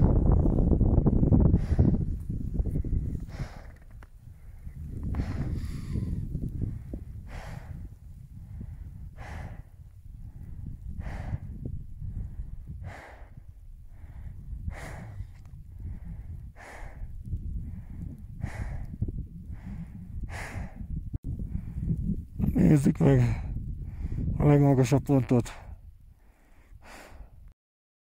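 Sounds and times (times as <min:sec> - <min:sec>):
wind rumble on microphone: 0:00.0 - 0:27.5
person breathing hard: 0:01.5 - 0:22.0, 0:23.2 - 0:24.4, 0:25.6 - 0:27.5.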